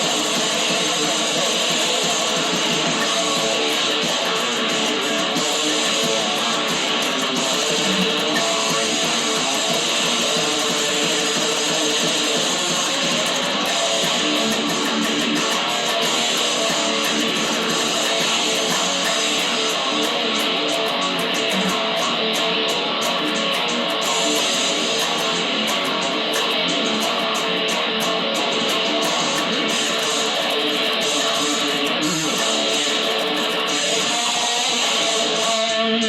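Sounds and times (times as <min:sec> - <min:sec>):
strummed guitar music: 0:00.0 - 0:36.0.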